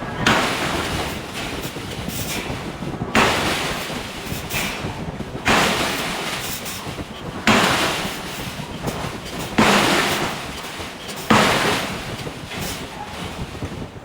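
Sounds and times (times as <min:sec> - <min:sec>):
forging hammer striking steel: 0:00.0 - 0:14.0.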